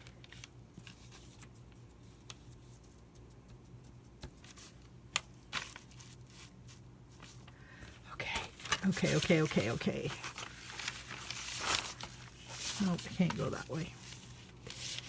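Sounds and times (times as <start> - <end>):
packing paper rustling: 0.0 - 15.0.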